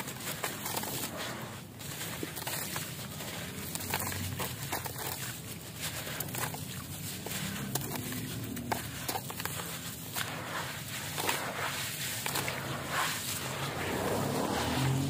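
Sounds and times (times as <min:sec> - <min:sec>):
crumbs dropping into water: 0:00.0 - 0:14.0.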